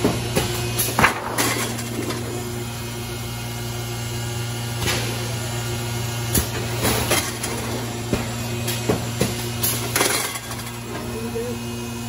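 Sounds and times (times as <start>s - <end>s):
machine electric hum: 0.0s - 12.0s.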